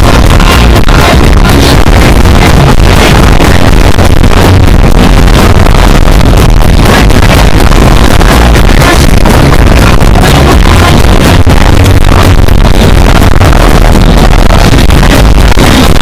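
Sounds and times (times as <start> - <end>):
distorted music over loudspeakers: 0.0 - 16.0.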